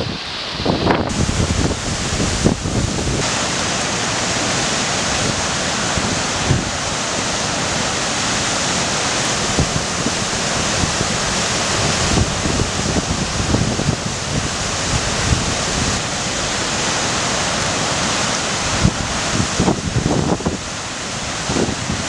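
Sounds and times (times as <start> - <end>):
river floodwater rushing: 0.0 - 22.0
wind buffeting microphone: 0.0 - 22.0.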